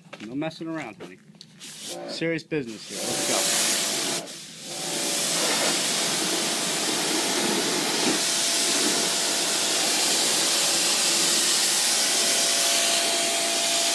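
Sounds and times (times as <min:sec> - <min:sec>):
pressure washer water jet hissing: 0:01.6 - 0:13.9.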